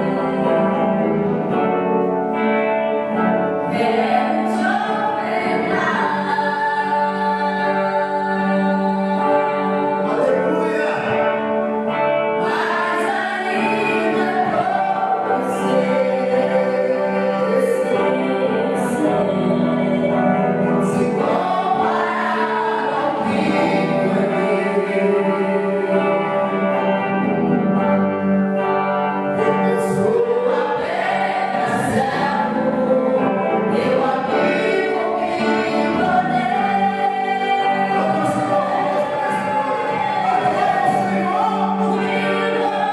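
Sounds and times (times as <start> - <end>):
group singing a hymn: 0.0 - 42.9.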